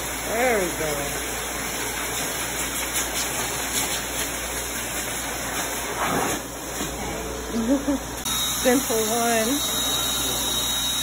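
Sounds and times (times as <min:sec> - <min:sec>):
pet dryer blowing air: 0:00.0 - 0:11.0.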